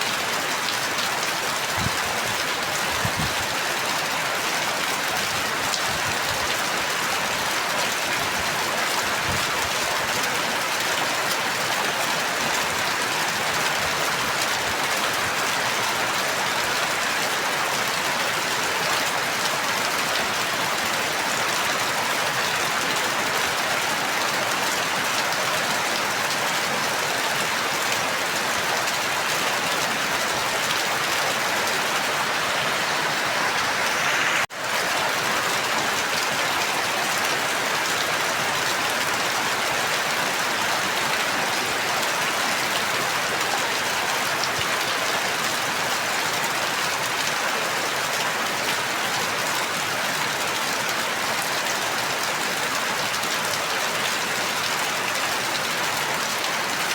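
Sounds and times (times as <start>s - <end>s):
heavy rain pattering: 0.0s - 56.9s.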